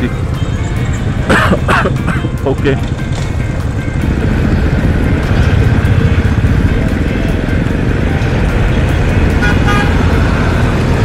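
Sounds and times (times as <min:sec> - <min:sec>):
motorcycle engines running slowly: 0:00.0 - 0:09.4.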